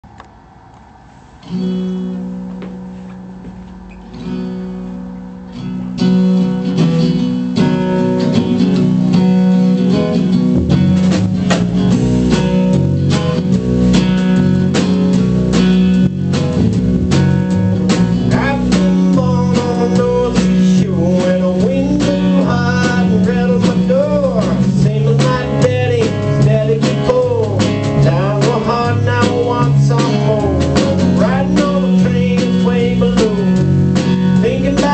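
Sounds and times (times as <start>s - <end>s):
blues-rock band playing: 1.4s - 34.9s
ringing guitar chords: 1.4s - 34.9s.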